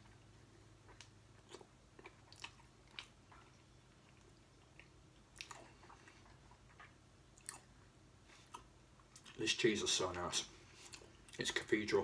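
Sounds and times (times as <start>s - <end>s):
faint chewing: 0.0s - 9.4s, 10.5s - 11.6s.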